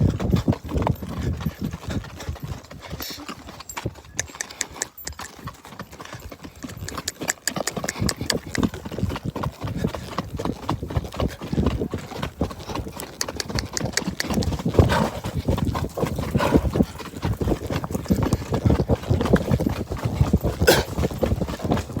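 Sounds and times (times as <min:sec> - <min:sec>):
horse hooves striking ground: 0:00.0 - 0:22.0.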